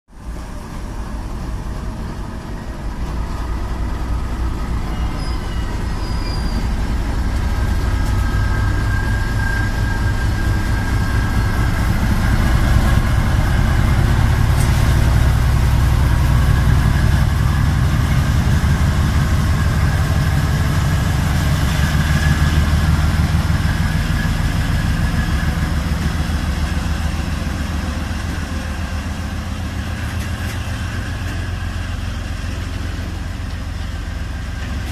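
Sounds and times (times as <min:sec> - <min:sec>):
diesel locomotive pulling away: 0:00.1 - 0:34.9.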